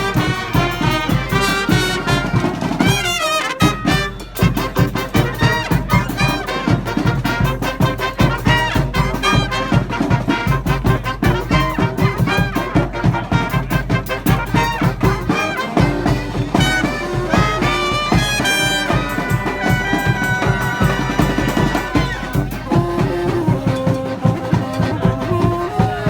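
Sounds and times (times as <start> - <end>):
brass marching band playing: 0.0 - 26.0
steady drum beat: 0.0 - 26.0.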